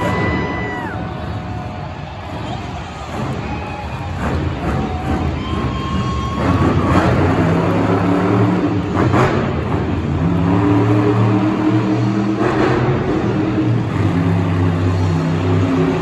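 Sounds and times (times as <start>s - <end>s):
monster truck engines revving: 0.0s - 16.0s.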